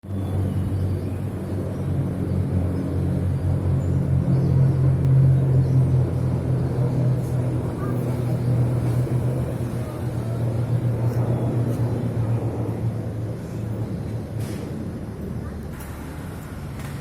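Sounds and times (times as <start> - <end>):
military aircraft droning overhead: 0.0 - 17.0.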